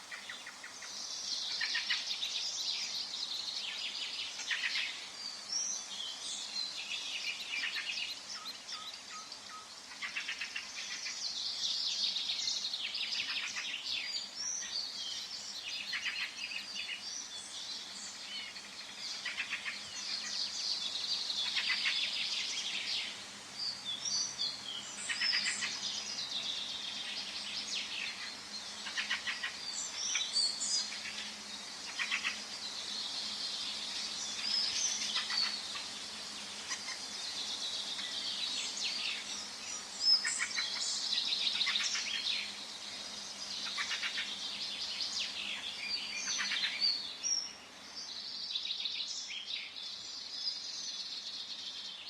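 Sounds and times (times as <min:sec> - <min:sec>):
faint background noise: 0:00.0 - 0:52.0
songbirds singing and chirping: 0:00.0 - 0:52.0.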